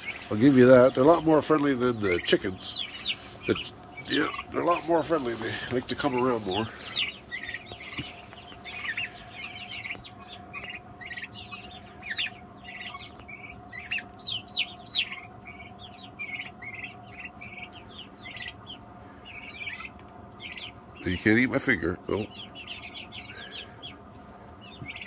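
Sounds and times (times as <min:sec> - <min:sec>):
faint steady hum: 0:00.0 - 0:25.0
turkey poults peeping: 0:00.0 - 0:25.0.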